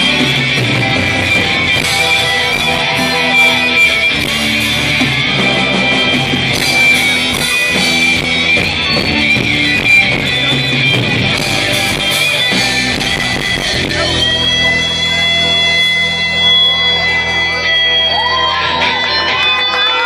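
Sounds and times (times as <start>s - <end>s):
electric guitars: 0.0s - 20.0s
live rock band: 0.0s - 20.0s.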